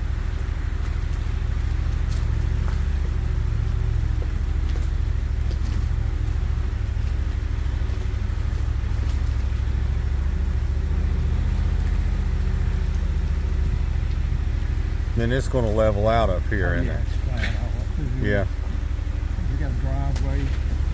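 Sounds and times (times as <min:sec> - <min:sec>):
truck engine rumble: 0:00.0 - 0:20.9.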